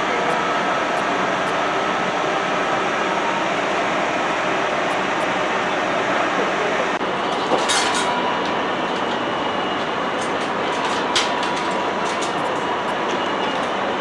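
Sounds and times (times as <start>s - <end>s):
electric locomotive idling whine: 0.0s - 14.0s.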